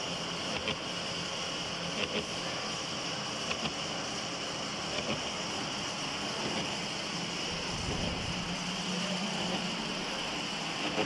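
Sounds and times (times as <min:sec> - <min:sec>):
milling machine humming and hissing: 0:00.0 - 0:11.0.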